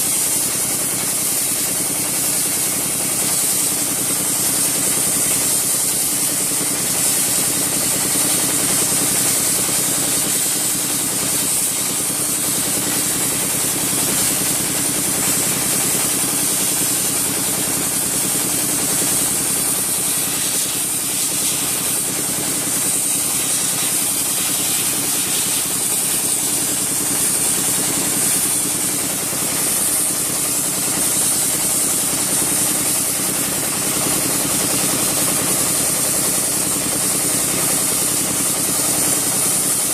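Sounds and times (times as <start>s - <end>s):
sandblasting jet hissing: 0.0s - 39.9s.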